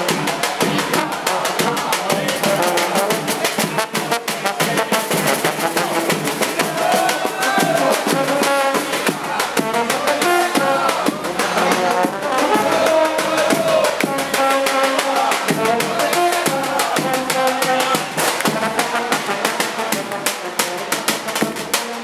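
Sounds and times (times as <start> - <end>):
brass horn melody: 0.0 - 22.0
drum and cymbal beat: 0.0 - 22.0.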